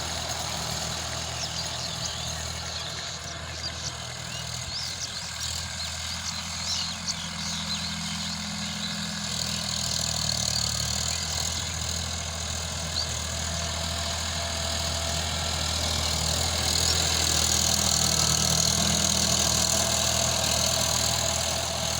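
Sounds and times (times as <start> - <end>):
tractor diesel engine running: 0.0 - 21.9.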